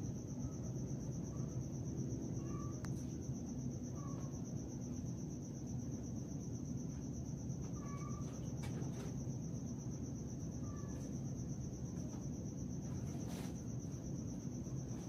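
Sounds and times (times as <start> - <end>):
insects trilling: 0.0 - 15.0
low background hum: 0.0 - 15.0.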